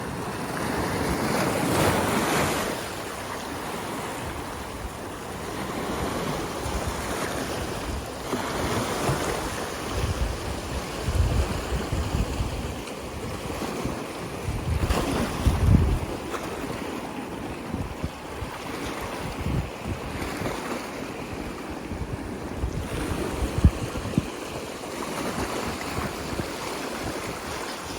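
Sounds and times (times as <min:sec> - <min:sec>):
ocean surf breaking on shore: 0:00.0 - 0:27.9
wind rumbling on microphone: 0:00.0 - 0:27.9.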